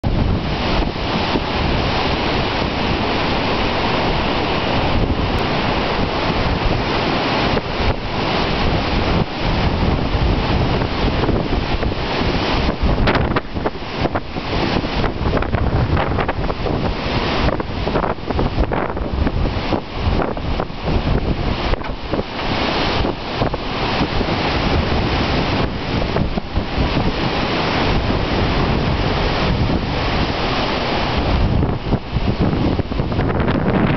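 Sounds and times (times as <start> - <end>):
strong gusting wind: 0.0 - 33.9.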